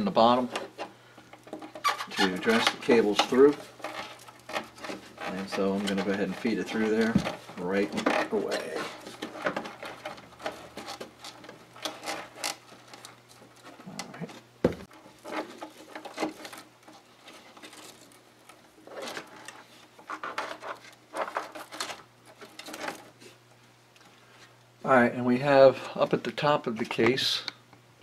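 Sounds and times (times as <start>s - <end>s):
cables rustling and scraping: 0.0s - 27.5s.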